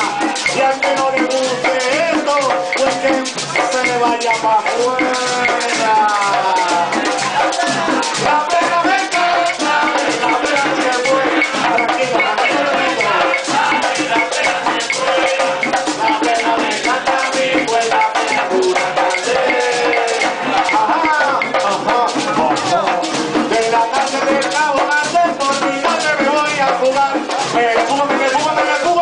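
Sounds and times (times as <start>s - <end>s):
frame drums beaten in fast rhythm: 0.0s - 29.0s
men singing: 0.0s - 29.0s.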